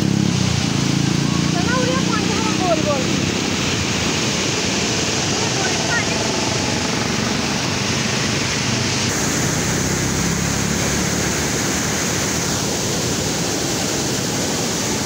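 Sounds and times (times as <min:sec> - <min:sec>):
water swirling down a whirlpool: 0:00.0 - 0:15.0.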